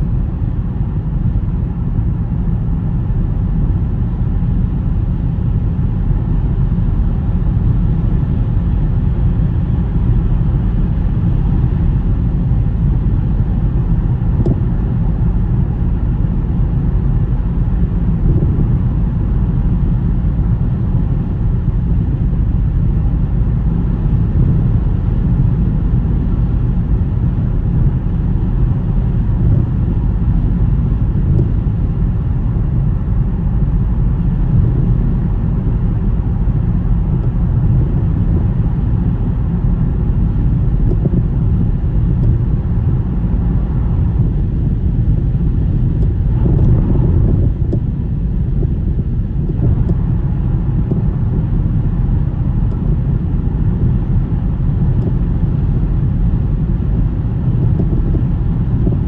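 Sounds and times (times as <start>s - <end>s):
car driving rumble: 0.0s - 59.0s
wind noise: 0.0s - 59.0s.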